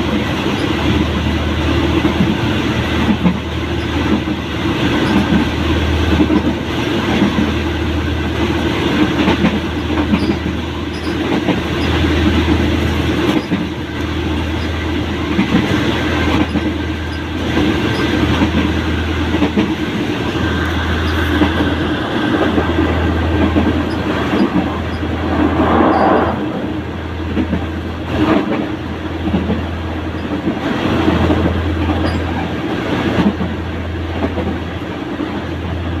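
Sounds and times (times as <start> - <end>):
train running at speed: 0.0 - 36.0.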